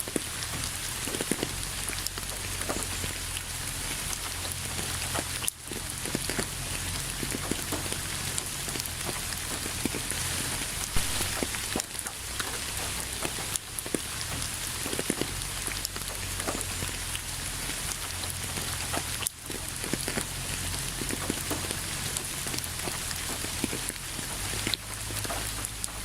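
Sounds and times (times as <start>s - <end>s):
raindrops clicking on surface: 0.0s - 26.0s
steady rain hiss: 0.0s - 26.0s.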